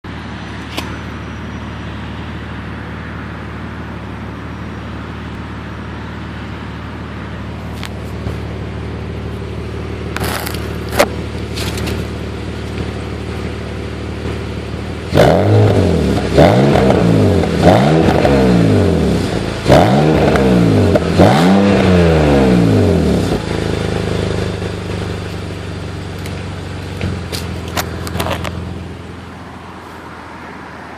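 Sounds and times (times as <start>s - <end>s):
car engine idling with misfires: 0.1s - 30.6s.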